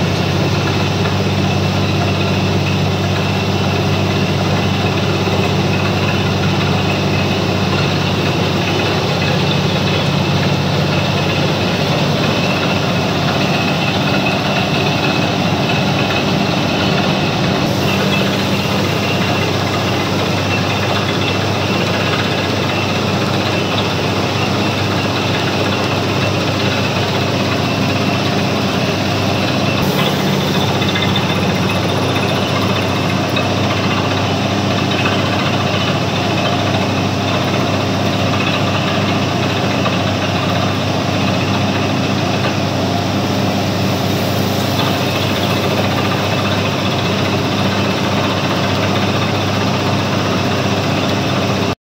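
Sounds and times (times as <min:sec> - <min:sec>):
drilling rig engine running: 0:00.0 - 0:51.8.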